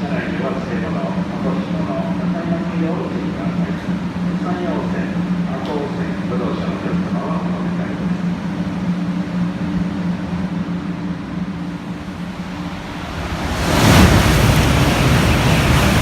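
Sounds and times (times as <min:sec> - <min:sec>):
high-speed train rushing past: 0:00.0 - 0:16.0
steady hum: 0:00.0 - 0:16.0.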